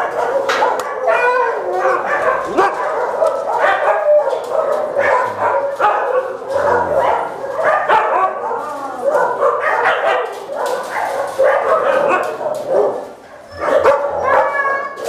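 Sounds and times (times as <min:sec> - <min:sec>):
many dogs barking: 0:00.0 - 0:15.0.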